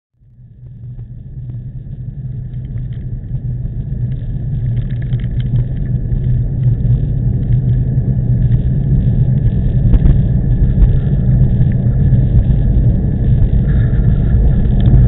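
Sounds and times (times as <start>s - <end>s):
wind buffeting microphone: 0.7s - 15.0s.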